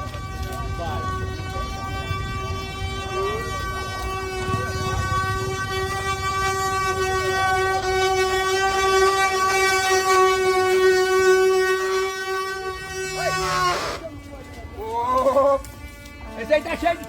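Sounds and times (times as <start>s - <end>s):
wooden axle droning whine: 0.0s - 17.0s.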